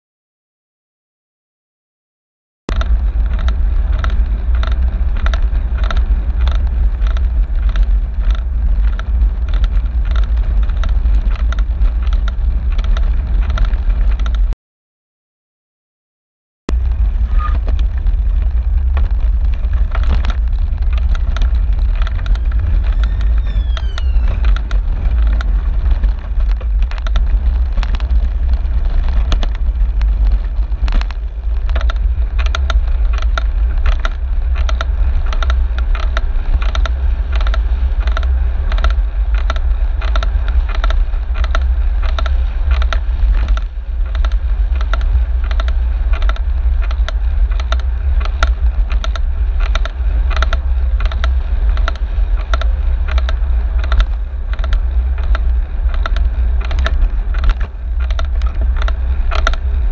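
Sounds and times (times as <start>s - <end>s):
bicycle rattling over bumps: 2.7s - 14.5s, 16.7s - 59.9s
road vibration and wind rumble: 2.7s - 14.6s, 16.7s - 59.9s.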